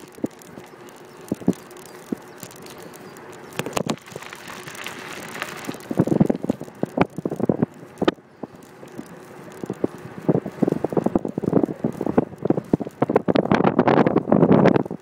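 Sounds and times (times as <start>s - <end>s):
bicycle knocks and rattles: 0.0s - 14.2s
bicycle tyres rolling on pavement: 0.0s - 15.0s.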